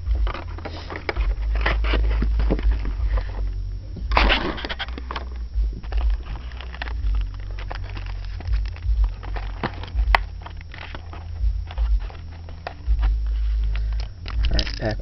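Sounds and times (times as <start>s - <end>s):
low handling rumble: 0.0s - 15.0s
wrapper and cardboard crinkling: 0.0s - 15.0s.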